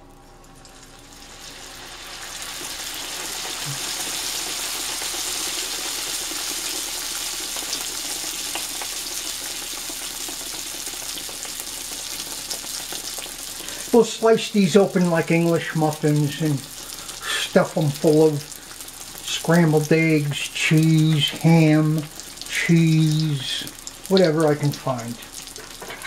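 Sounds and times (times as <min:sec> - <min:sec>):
dough frying in hot oil: 0:00.0 - 0:26.0.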